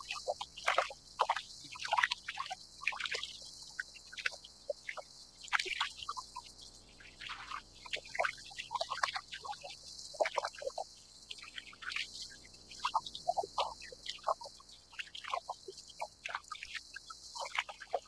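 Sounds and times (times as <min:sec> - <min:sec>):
small waves lapping against hull: 0:00.0 - 0:18.0.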